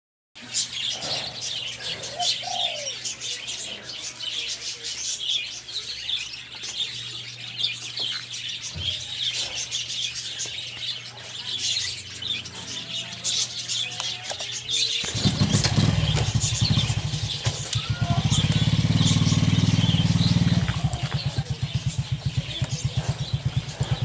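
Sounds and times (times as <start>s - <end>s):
small birds chirping: 0.4s - 24.0s
dove-like calls: 0.5s - 24.0s.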